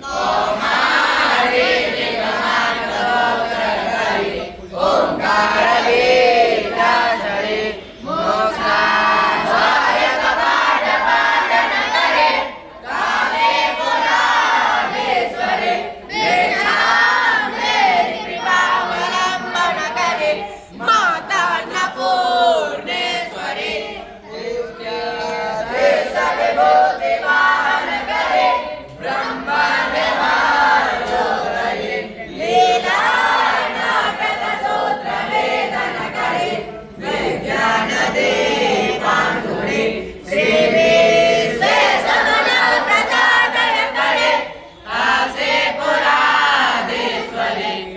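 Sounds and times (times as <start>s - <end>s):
group of voices chanting: 0.0s - 47.9s.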